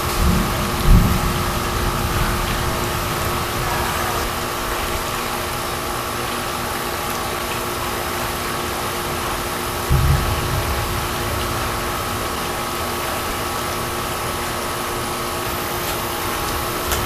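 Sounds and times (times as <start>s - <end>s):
machine hum with fixed tones: 0.0s - 6.6s, 7.4s - 17.0s.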